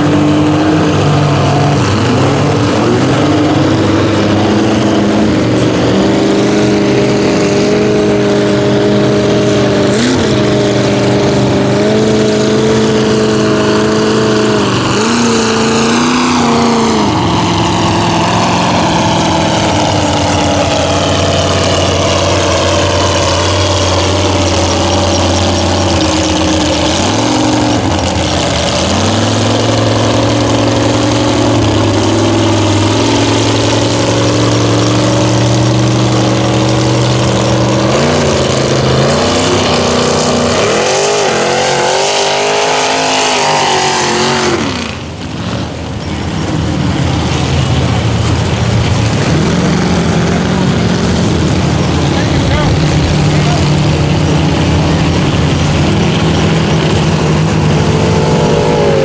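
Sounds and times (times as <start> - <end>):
truck engine through open exhaust: 0.0 - 59.0.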